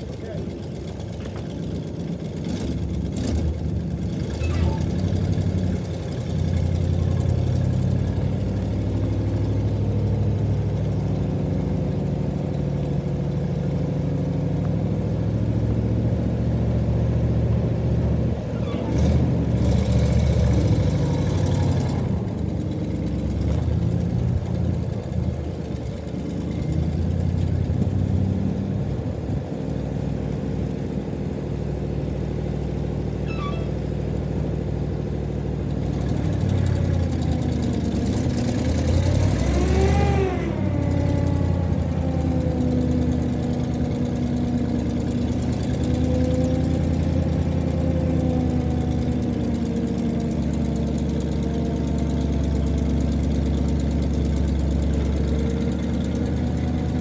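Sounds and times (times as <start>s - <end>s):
truck engine revving: 1.9s - 57.0s.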